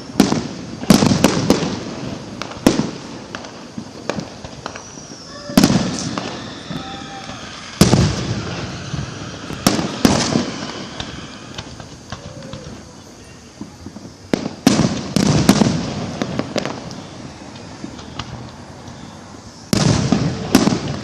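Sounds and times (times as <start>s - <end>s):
fireworks bangs with echo: 0.0s - 21.0s
small firework pops: 0.0s - 21.0s.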